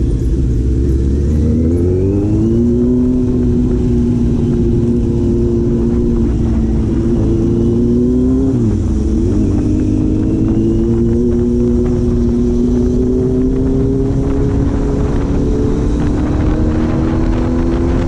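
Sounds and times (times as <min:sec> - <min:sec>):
engine running at steady revs: 0:00.0 - 0:18.0.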